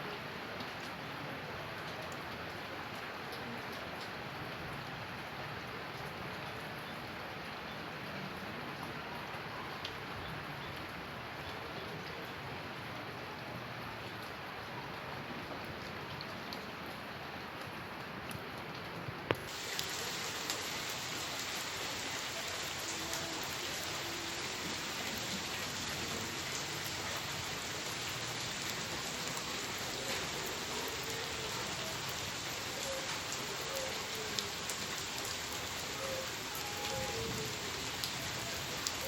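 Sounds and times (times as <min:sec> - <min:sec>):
heavy rain on rooftops: 0:00.0 - 0:39.0.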